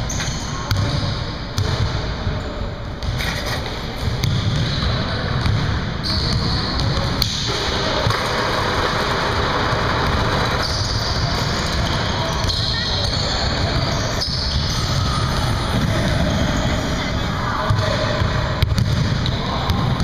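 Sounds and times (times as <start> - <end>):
echoing hall noise: 0.0 - 20.0.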